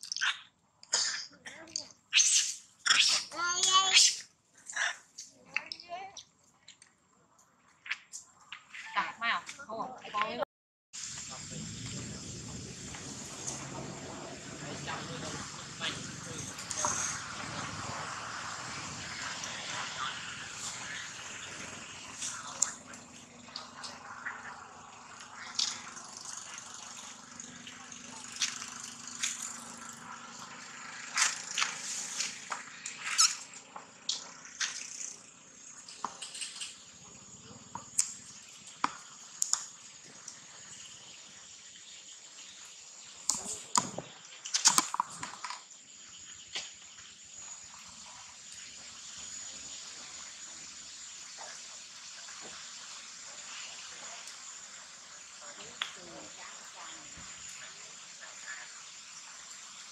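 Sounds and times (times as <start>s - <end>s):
high insect drone: 11.0s - 59.9s.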